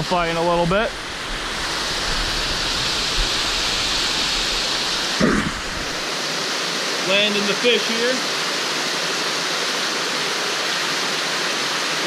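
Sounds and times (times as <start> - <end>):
waterfall pouring into pool: 0.2 - 12.0.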